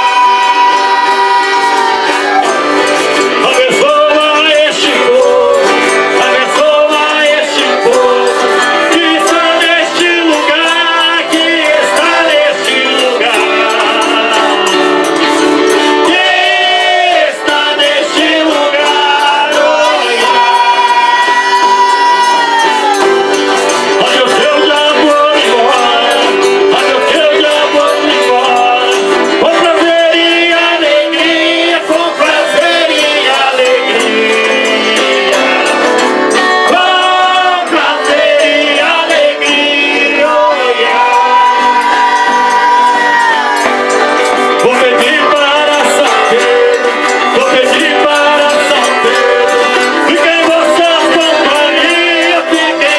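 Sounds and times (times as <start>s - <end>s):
instrumental accompaniment: 0.0s - 52.9s
men singing a folk song: 0.0s - 52.9s.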